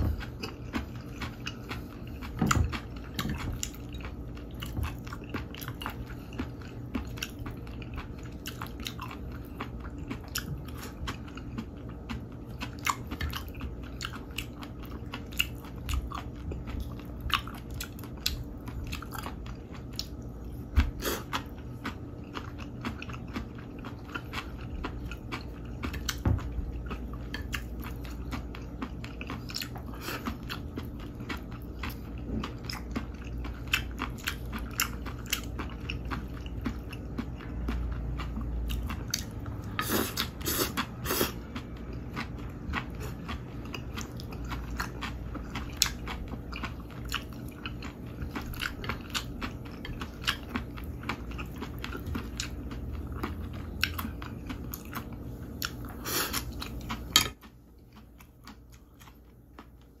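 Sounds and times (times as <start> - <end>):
chewing and biting: 0.0 - 60.0.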